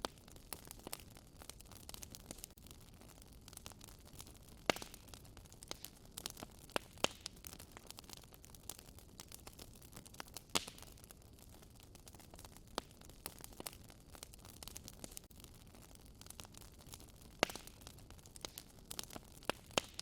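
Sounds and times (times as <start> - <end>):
loud fire snaps: 0.0 - 20.0
wood fire crackling: 0.0 - 20.0.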